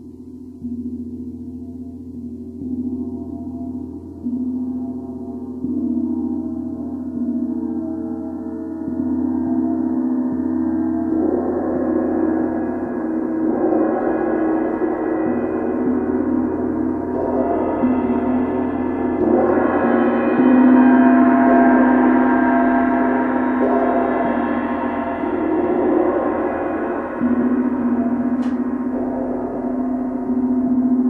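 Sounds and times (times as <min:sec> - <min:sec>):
gong and cymbals ringing: 0:00.0 - 0:31.0.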